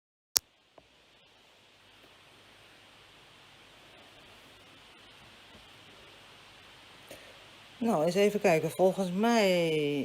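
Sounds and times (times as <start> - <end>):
faint hiss: 0.4 - 10.0.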